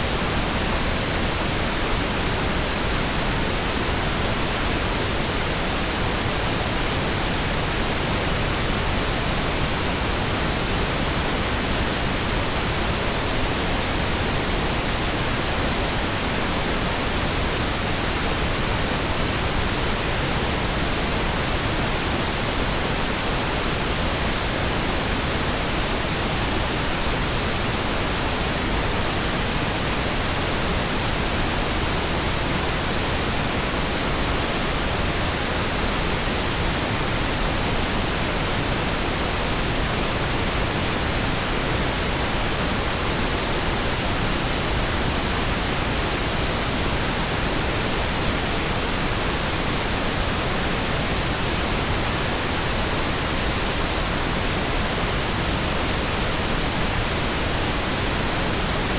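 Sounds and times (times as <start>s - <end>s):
pink noise hiss: 0.0s - 58.9s.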